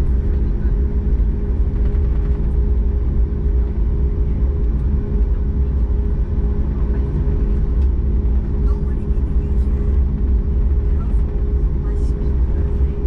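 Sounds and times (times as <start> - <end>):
airplane cabin rumble while taxiing: 0.0 - 13.0.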